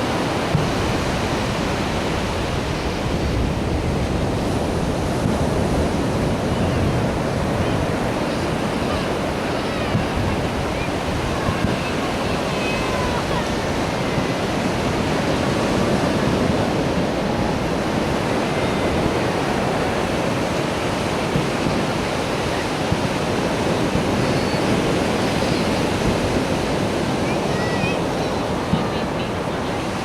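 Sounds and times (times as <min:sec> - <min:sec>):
ocean surf on a beach: 0:00.0 - 0:30.0.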